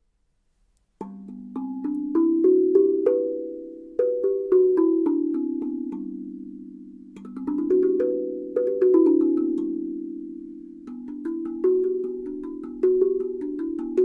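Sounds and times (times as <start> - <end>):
steel tongue drum notes: 1.0 - 14.0.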